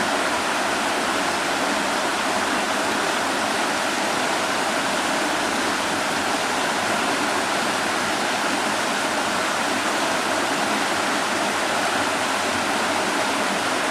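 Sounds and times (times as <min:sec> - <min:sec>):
stream rushing over stones: 0:00.0 - 0:13.9.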